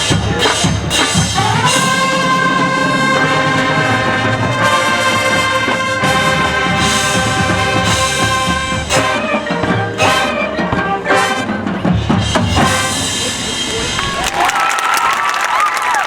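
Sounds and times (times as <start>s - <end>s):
brass band sustained chord: 0.0s - 13.7s.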